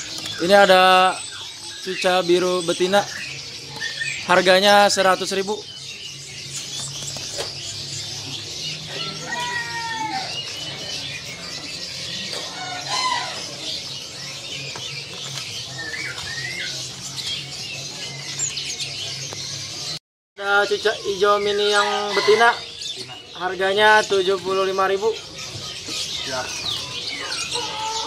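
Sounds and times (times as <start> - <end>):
songbirds chirping and squawking: 0.0 - 28.0.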